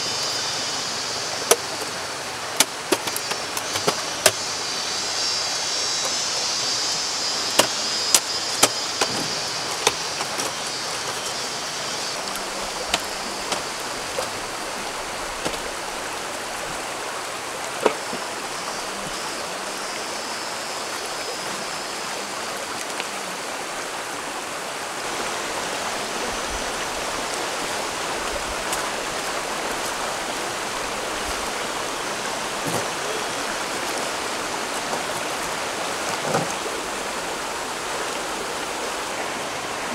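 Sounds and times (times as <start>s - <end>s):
rocky stream flowing: 0.0s - 39.9s.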